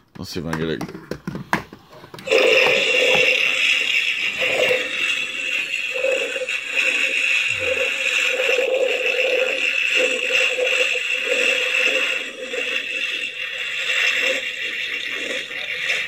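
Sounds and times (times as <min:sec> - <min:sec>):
pulsing electronic hum: 0:02.2 - 0:16.0.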